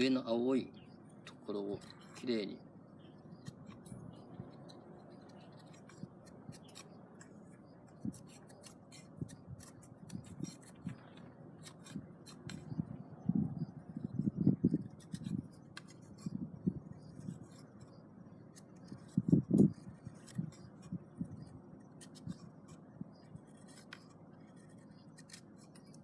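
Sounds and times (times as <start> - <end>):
knife scraping bark: 1.3 - 12.8, 14.6 - 26.0.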